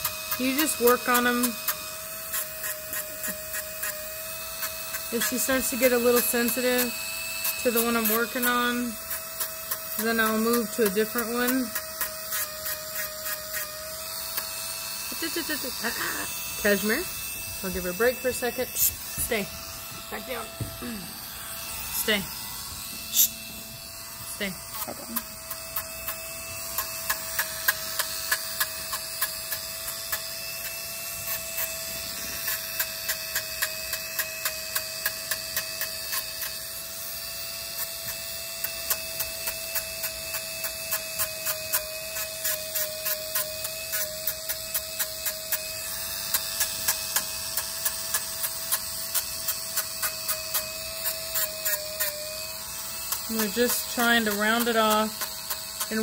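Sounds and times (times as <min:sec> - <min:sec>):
grinding ticks on toenail: 0:00.0 - 0:20.8, 0:21.4 - 0:56.0
rotary tool high whine: 0:00.0 - 0:56.0.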